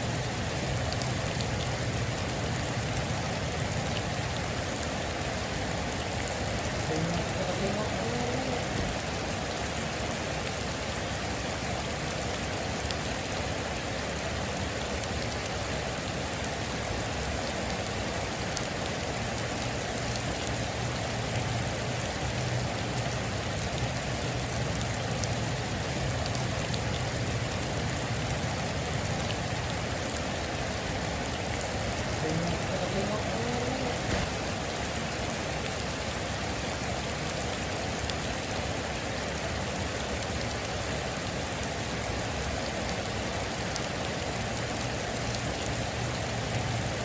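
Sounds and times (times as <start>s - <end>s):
heavy rain on a metal roof: 0.0s - 47.0s.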